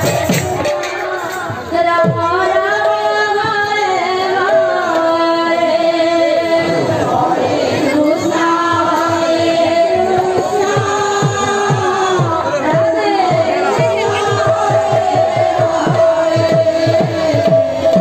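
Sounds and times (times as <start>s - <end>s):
instrumental accompaniment: 0.0s - 18.0s.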